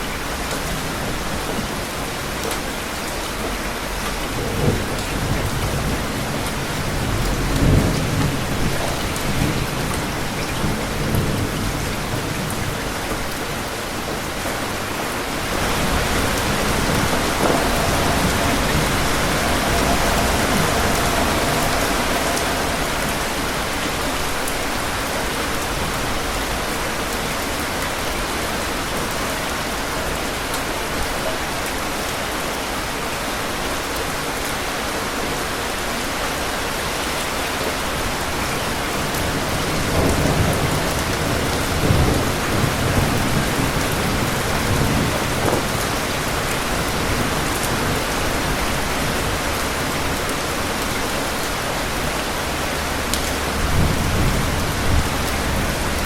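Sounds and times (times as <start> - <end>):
steady rain: 0.0 - 56.0
rolling thunder: 0.3 - 29.3, 38.2 - 56.0.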